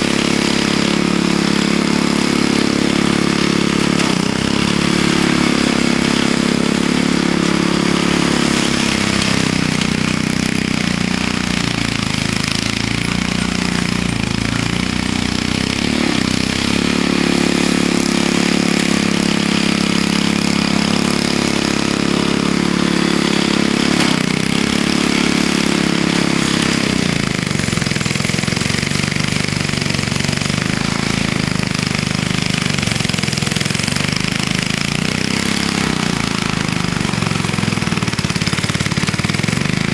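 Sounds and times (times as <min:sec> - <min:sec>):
snowblower engine bogging down: 0:00.0 - 0:39.9.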